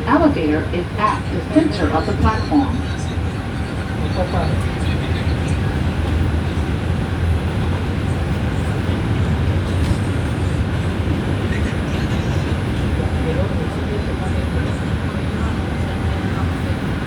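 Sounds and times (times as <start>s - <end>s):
subway car rumble and hiss: 0.0s - 17.0s.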